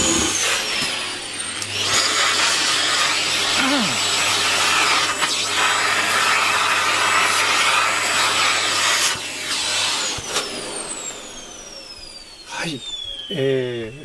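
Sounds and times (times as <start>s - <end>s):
vacuum cleaner motor spinning down: 0.0s - 14.0s.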